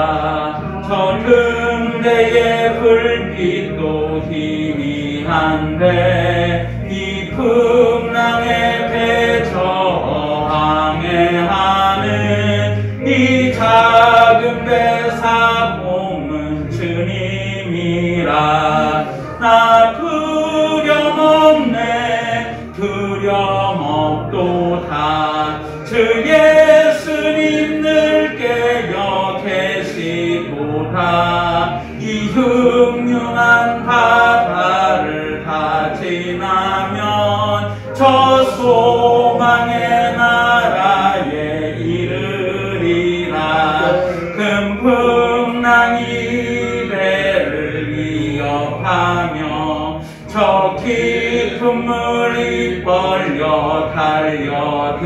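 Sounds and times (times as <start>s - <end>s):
man singing a hymn: 0.0s - 55.0s.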